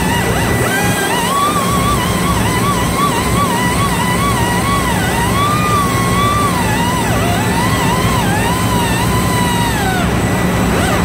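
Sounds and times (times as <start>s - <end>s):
low machinery rumble: 0.0s - 11.0s
thin constant whine: 0.0s - 11.0s.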